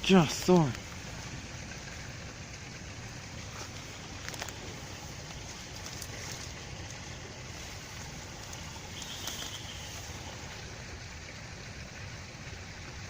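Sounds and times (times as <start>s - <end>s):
low rumble: 0.0s - 12.8s
even hiss: 0.0s - 13.0s.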